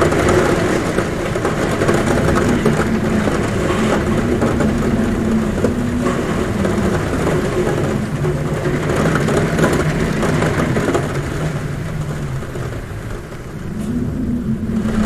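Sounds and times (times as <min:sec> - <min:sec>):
heavy rain drumming on roof: 0:00.0 - 0:15.0
wind humming at window: 0:00.0 - 0:15.0.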